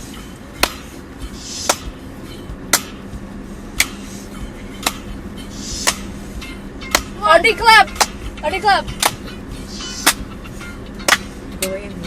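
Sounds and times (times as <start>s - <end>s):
faint music: 0.0s - 12.0s
low steady hum: 0.0s - 12.0s.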